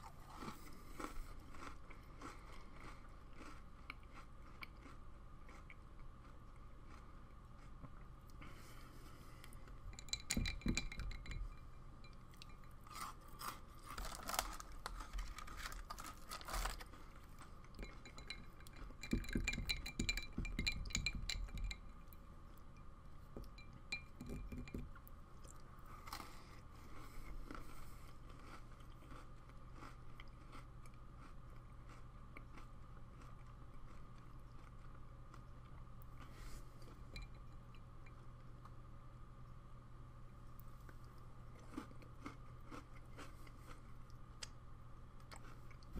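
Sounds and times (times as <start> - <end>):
person chewing crunchy cookies: 0.0 - 10.8, 11.5 - 20.8, 24.6 - 37.3, 40.3 - 44.6, 45.2 - 45.9.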